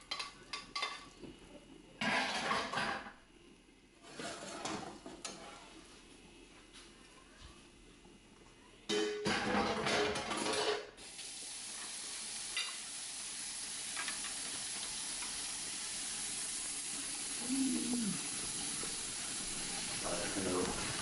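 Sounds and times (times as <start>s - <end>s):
griddle sizzling: 0.0s - 1.3s, 2.0s - 6.8s, 9.2s - 21.0s.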